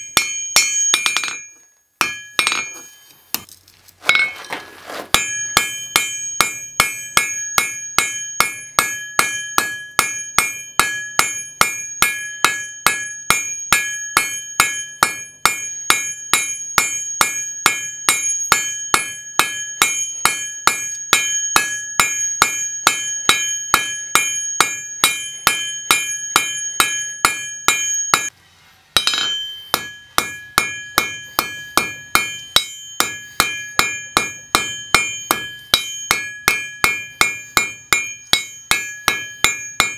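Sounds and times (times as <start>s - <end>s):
hammer striking metal on anvil: 0.0s - 3.5s, 4.1s - 4.4s, 5.1s - 28.3s, 29.0s - 39.9s.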